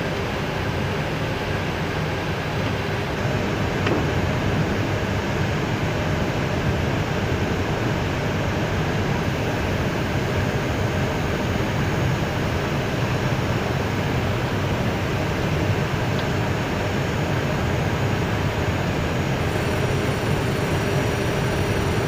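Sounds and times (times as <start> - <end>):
aircraft engines idling: 0.0 - 22.0
cockpit ventilation hiss: 0.0 - 22.0.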